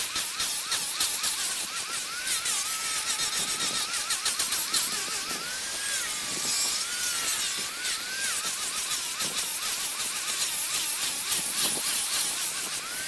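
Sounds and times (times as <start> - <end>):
gritty hiss of sanding: 0.0 - 13.0
power tool whining: 0.0 - 13.0.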